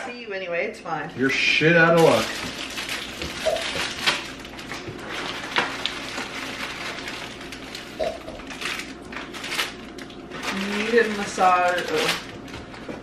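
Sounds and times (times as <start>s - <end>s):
plastic wrappers crinkling: 1.3s - 13.0s.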